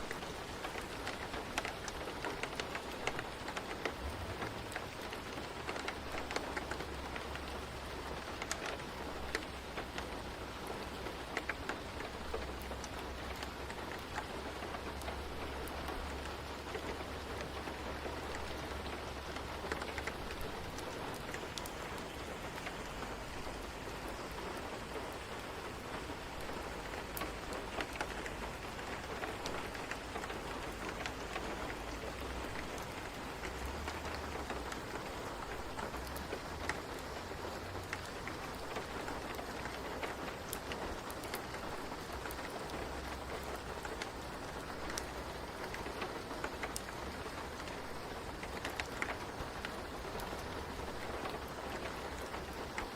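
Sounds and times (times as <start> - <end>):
steady rain hiss: 0.0 - 52.9
ticks of raindrops: 0.0 - 52.9.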